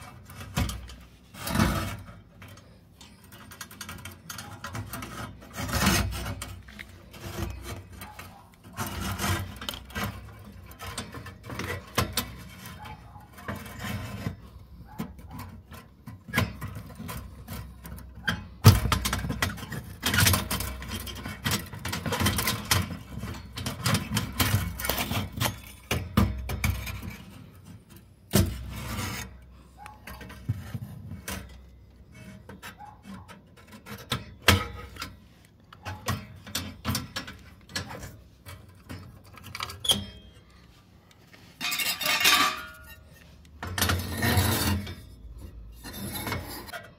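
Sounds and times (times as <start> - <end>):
scraping against metal tubes: 0.0 - 46.9.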